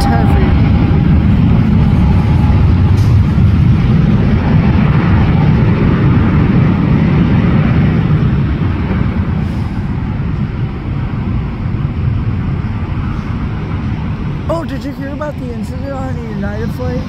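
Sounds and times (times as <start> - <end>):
jet engine roar at takeoff: 0.0 - 17.0.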